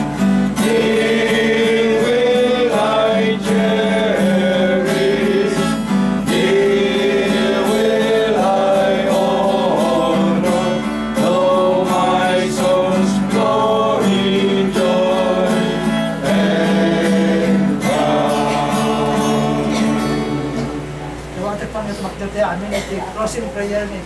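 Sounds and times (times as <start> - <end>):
voices singing a hymn: 0.0 - 21.4
strummed acoustic guitar: 0.0 - 22.9.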